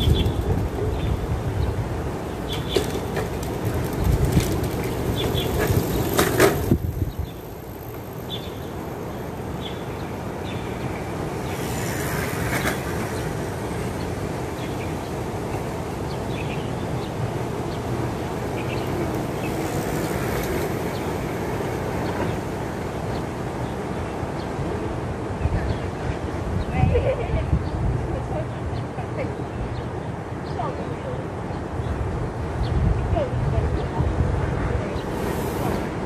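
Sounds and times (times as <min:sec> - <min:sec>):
outdoor background noise: 0:00.0 - 0:36.0.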